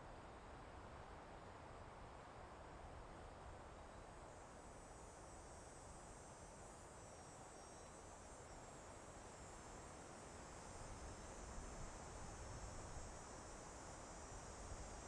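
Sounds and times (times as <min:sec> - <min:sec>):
soft wind through forest: 0:00.0 - 0:15.0.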